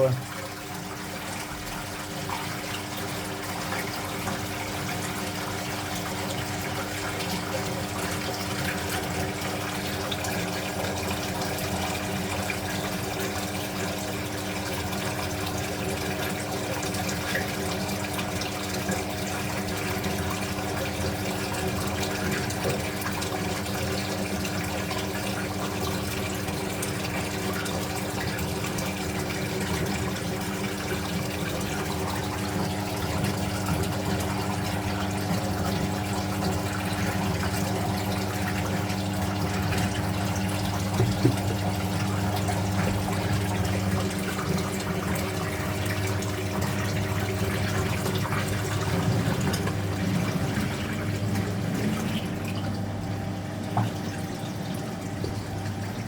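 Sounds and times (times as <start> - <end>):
washing machine hum: 0.0 - 56.0
water rushing into washing machine: 0.0 - 56.0.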